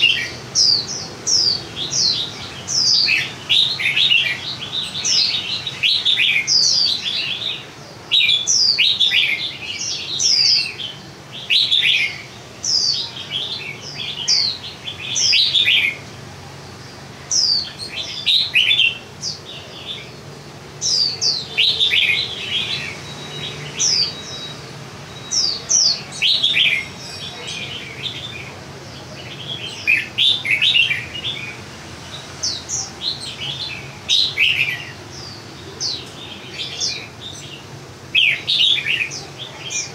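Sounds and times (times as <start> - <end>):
songbird singing whistled notes: 0.0 - 16.1, 17.3 - 20.2, 20.8 - 39.9.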